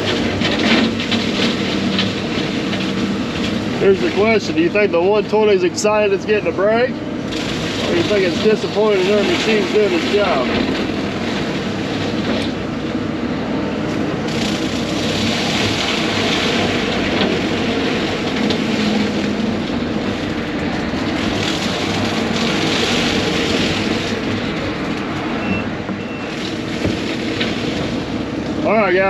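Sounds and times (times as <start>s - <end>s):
diesel engine under load: 0.0s - 29.0s.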